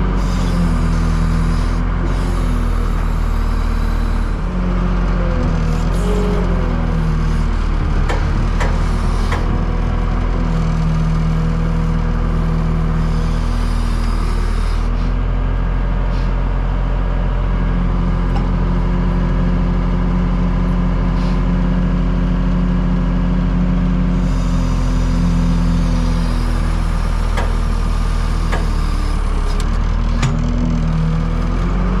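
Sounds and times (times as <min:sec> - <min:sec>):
sawmill engine running: 0:00.0 - 0:32.0.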